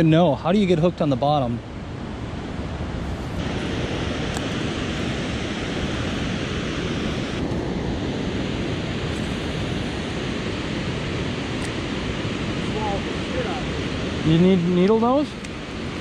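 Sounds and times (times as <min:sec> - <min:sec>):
water roaring over spillway: 0:00.0 - 0:16.0
wind buffeting microphone: 0:00.0 - 0:16.0.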